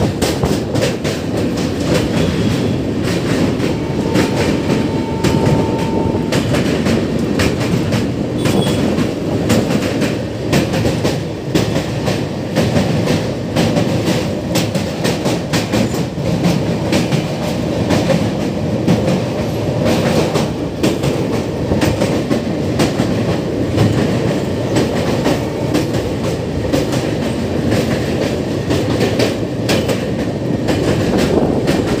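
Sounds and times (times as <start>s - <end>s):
train rumbling: 0.0s - 32.0s
wheels clickety-clack over rail joints: 0.0s - 32.0s.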